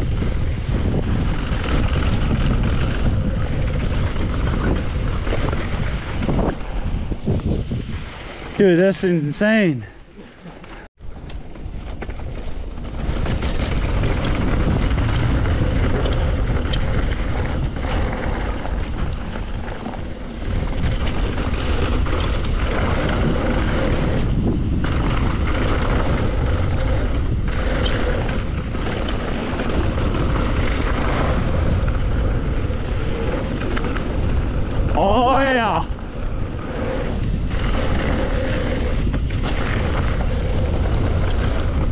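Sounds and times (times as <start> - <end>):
wind rushing over microphone: 0.0 - 10.1, 11.0 - 41.9
tyres rolling on dirt: 0.0 - 41.9.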